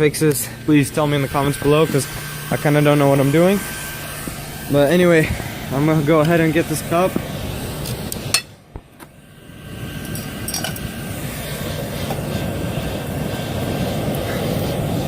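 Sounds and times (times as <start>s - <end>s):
air blower rushing: 0.0s - 15.0s.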